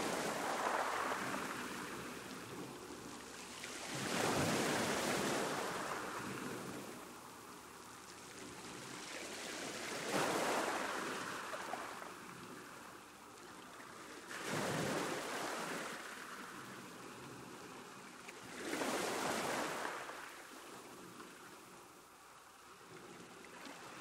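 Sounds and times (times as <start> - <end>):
ocean waves breaking on shore: 0.0 - 24.0.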